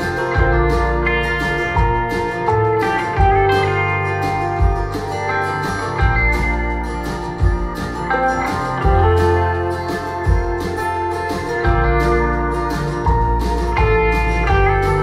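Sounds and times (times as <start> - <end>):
acoustic folk music on loudspeakers: 0.0 - 15.0.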